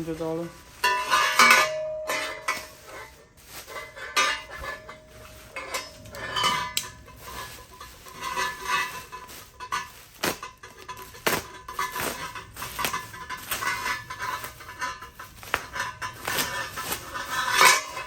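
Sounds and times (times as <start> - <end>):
metal exhaust pipes clinking: 0.0 - 18.0.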